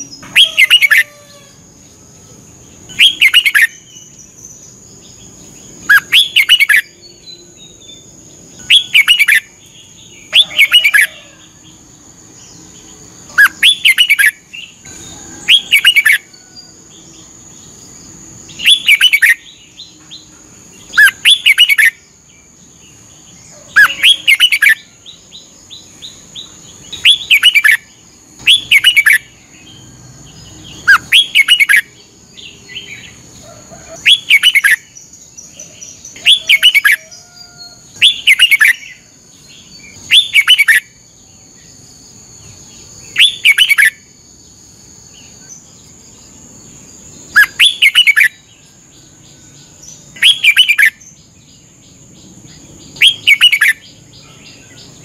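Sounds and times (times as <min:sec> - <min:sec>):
bulbul singing warbled phrases: 0:00.0 - 0:16.3, 0:17.2 - 0:44.1, 0:44.7 - 0:55.0.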